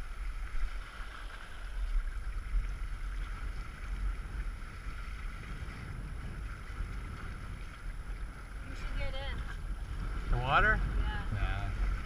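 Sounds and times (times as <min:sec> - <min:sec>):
water rushing along a hull: 0:00.0 - 0:12.0
wind buffeting microphone: 0:00.0 - 0:12.0.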